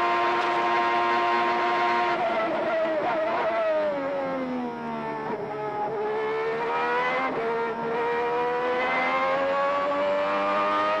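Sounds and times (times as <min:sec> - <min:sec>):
racing car engine revving: 0:00.0 - 0:04.6, 0:05.2 - 0:11.0.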